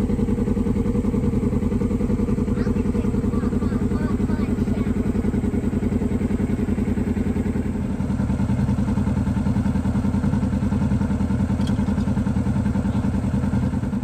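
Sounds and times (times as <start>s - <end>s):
buggy engine running: 0.0s - 14.0s.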